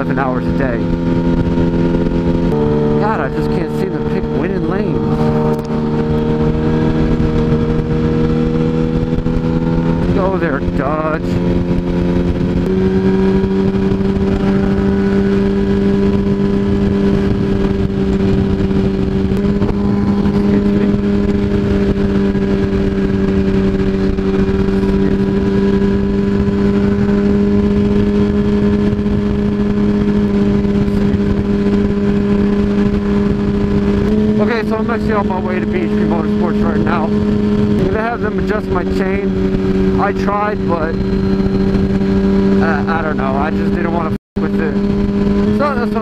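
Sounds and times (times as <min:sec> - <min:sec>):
motorcycle engine cruising: 0:00.0 - 0:46.0
wind rush on microphone: 0:00.0 - 0:46.0.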